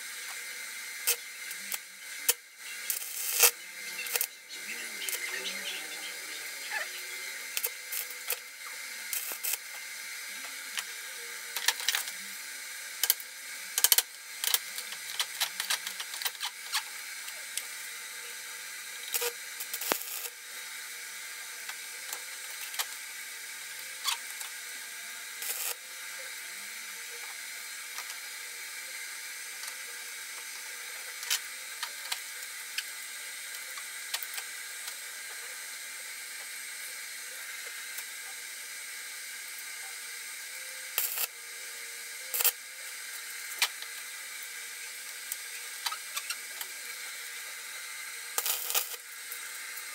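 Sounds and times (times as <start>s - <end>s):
steady welding hiss: 0.0s - 49.9s
welding arc crackling: 0.0s - 49.9s.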